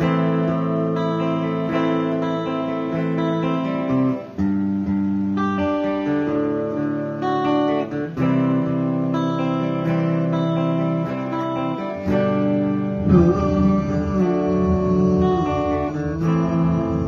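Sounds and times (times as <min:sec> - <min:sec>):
electric guitar strumming chords: 0:00.0 - 0:17.0.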